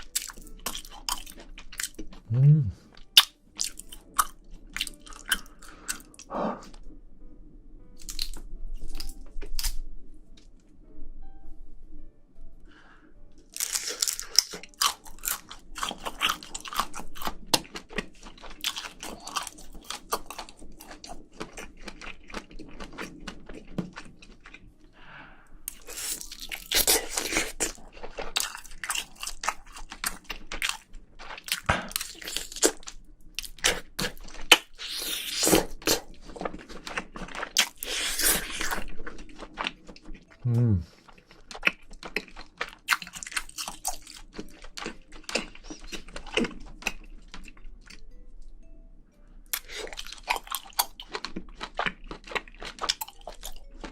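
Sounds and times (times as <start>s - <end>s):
mouth chewing crunchy seafood: 0.0s - 6.8s, 13.4s - 24.7s, 25.7s - 48.0s, 49.5s - 53.9s.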